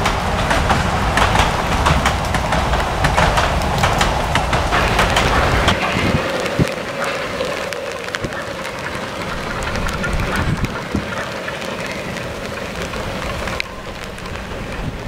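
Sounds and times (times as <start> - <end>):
distant steam train running: 0.0 - 15.0
steady rain: 0.0 - 15.0
wind noise on microphone: 0.0 - 15.0.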